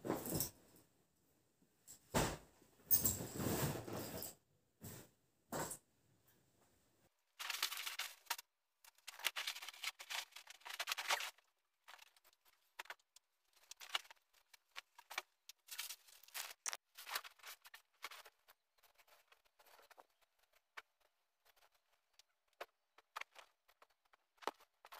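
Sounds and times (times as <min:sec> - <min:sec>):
rustling and scraping of items: 0:00.0 - 0:00.8, 0:02.0 - 0:05.8, 0:07.4 - 0:24.9.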